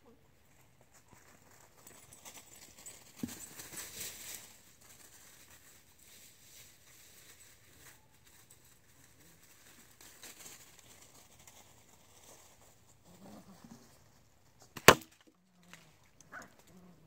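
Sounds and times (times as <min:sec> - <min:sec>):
soft rustles: 0:00.4 - 0:14.8.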